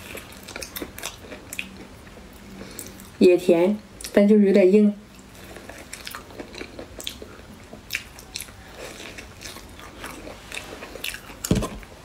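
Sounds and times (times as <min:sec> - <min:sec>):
person chewing with mouth smacks: 0:00.0 - 0:03.2, 0:05.2 - 0:11.9.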